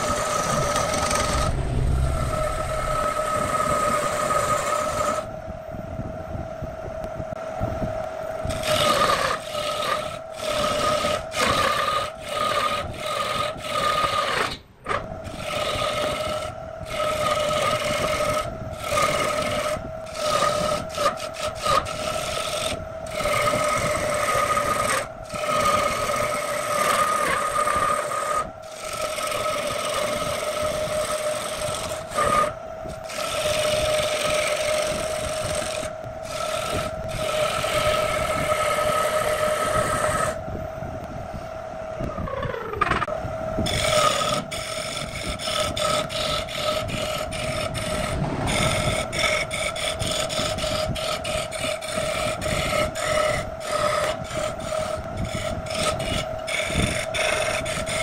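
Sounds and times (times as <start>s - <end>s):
tool scraping spinning wood: 0.0s - 5.3s, 8.4s - 40.4s, 42.0s - 58.0s
lathe motor whine: 0.0s - 5.6s, 7.4s - 58.0s.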